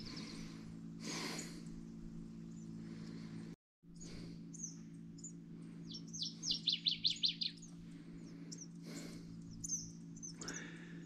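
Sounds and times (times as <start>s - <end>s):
songbird singing: 0.0s - 11.0s
steady low hum: 0.0s - 11.0s.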